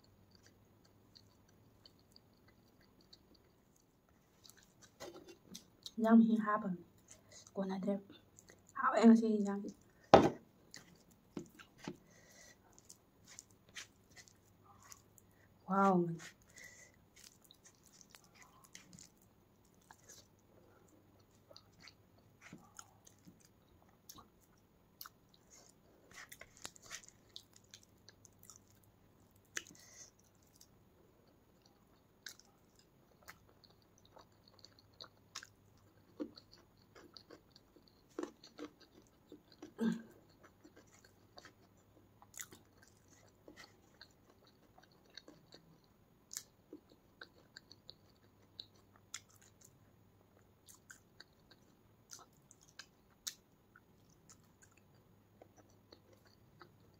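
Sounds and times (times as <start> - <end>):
person chewing food: 0.0 - 6.0, 6.9 - 8.8, 9.7 - 56.9.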